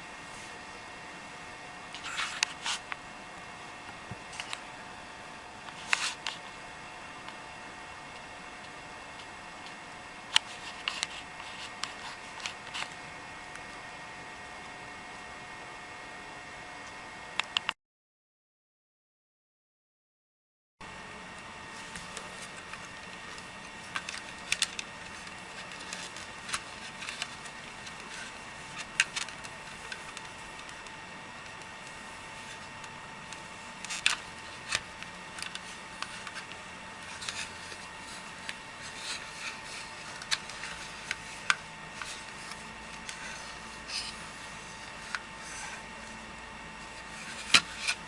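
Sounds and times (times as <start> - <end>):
steady electrical hum: 0.0 - 17.8, 20.8 - 48.0.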